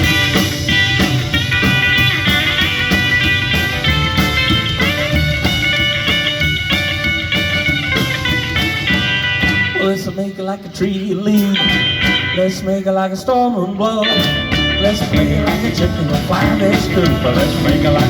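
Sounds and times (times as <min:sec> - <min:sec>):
bass: 0:00.0 - 0:10.1, 0:11.4 - 0:12.8, 0:13.8 - 0:18.0
drum kit: 0:00.0 - 0:12.7, 0:14.0 - 0:18.0
guitar: 0:00.0 - 0:18.0.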